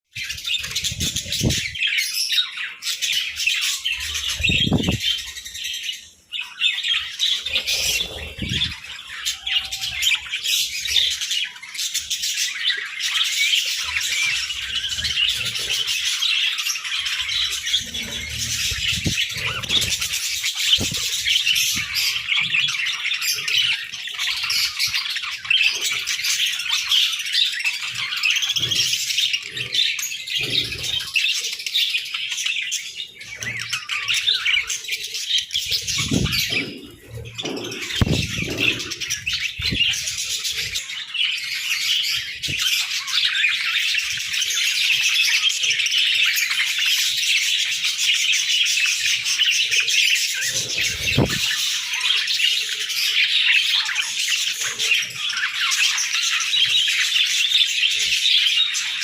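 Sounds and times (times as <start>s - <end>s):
budgerigars chirping and chattering: 0.1s - 59.0s.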